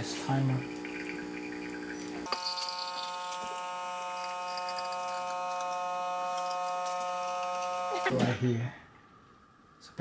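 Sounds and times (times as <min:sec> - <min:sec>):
espresso machine pump humming: 0:00.0 - 0:08.1.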